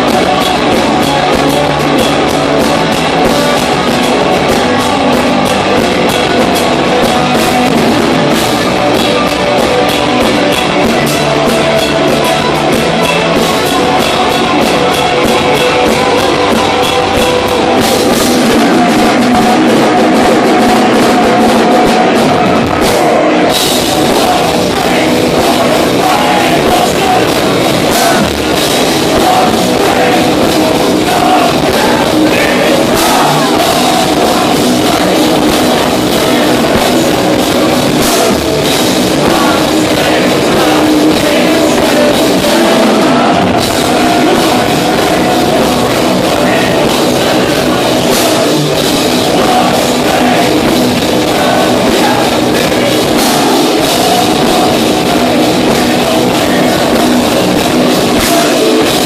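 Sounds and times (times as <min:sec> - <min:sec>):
distorted guitars: 0:00.0 - 0:59.0
drum kit: 0:00.0 - 0:59.0
metal vocals: 0:00.0 - 0:59.0.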